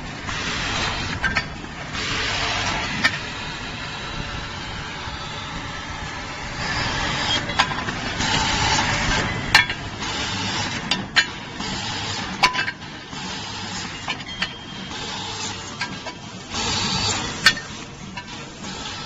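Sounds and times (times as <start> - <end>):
packing machine hiss and hum: 0.0 - 19.0.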